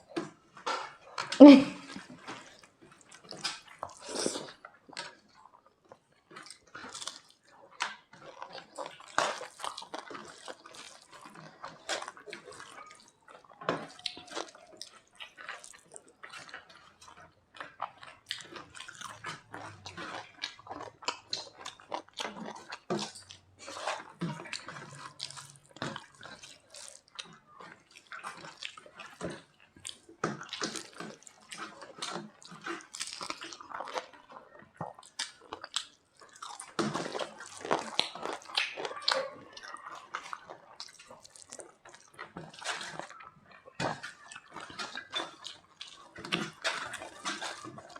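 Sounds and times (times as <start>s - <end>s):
chewing: 0.0s - 47.9s
wet squelching and smacking: 6.4s - 47.9s.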